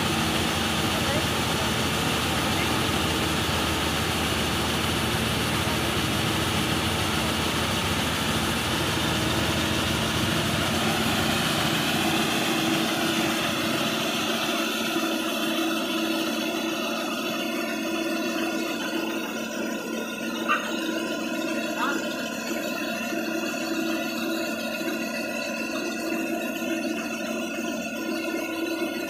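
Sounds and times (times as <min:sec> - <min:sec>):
combine harvester running: 0:00.0 - 0:29.0
grain unloading auger: 0:00.0 - 0:29.0.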